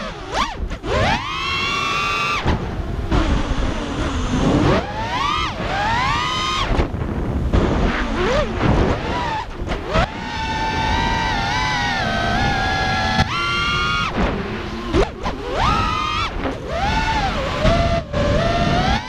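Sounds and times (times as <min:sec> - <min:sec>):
drone motors whining: 0:00.0 - 0:19.0
wind and propeller rush: 0:00.0 - 0:19.0.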